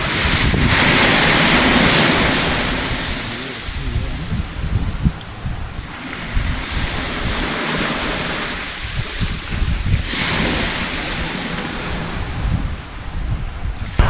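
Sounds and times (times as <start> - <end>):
waves breaking on beach: 0.0 - 14.0
wind buffeting microphone: 0.0 - 14.0.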